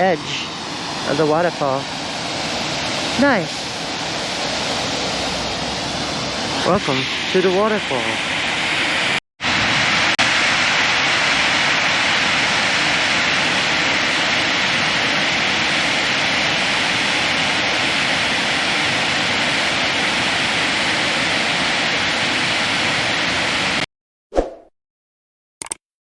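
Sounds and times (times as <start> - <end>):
waterfall rushing over rocks: 0.0 - 23.8.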